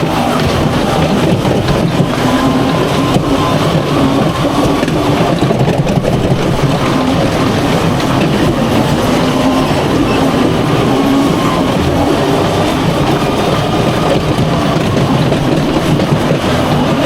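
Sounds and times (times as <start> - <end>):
rumbling motor: 0.0 - 17.0.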